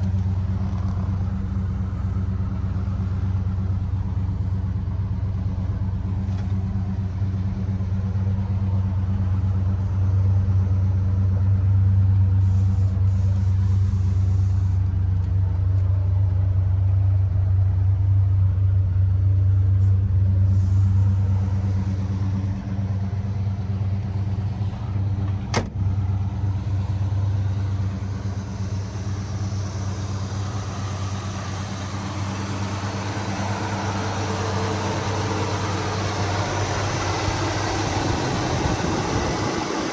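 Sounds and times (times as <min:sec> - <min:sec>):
car engine humming: 0:00.0 - 0:39.9.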